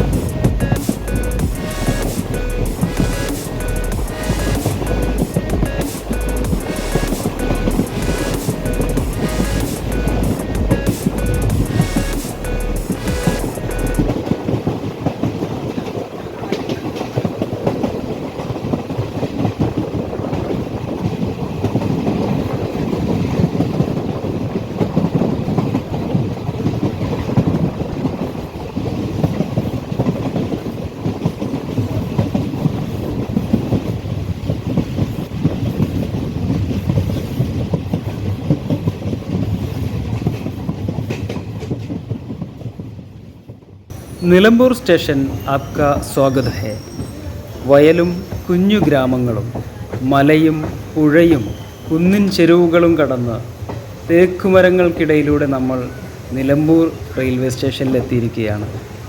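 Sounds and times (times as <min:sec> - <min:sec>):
train wheels clattering: 0:00.0 - 0:59.0.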